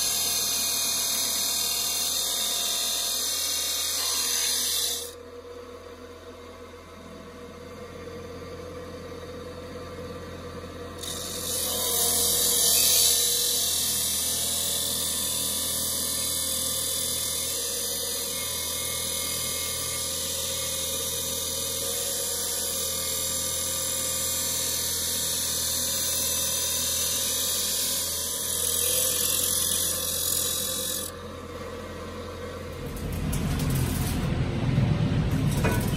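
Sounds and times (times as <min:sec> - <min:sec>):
cut-off wheel grinding steel: 0:00.0 - 0:05.2, 0:09.2 - 0:34.6, 0:35.2 - 0:35.9.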